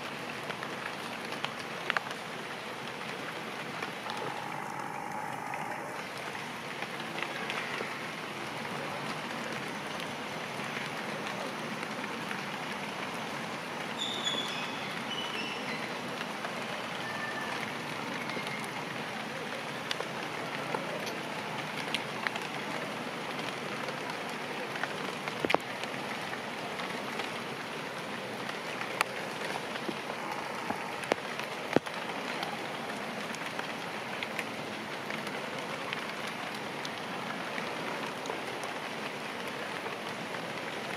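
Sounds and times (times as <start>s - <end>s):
rain falling on grass and leaves: 0.0s - 40.9s.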